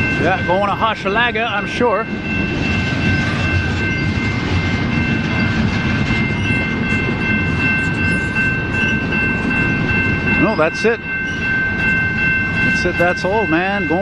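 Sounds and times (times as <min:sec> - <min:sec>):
crossing bell ringing: 0:00.0 - 0:14.0
freight train rumbling: 0:00.0 - 0:14.0.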